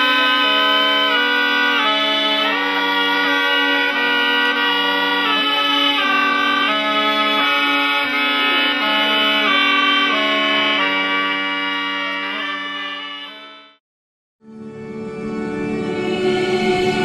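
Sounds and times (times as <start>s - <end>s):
bagpipe drone: 0.0s - 13.8s, 14.5s - 17.0s
reedy shawm melody: 0.0s - 13.8s, 14.5s - 17.0s.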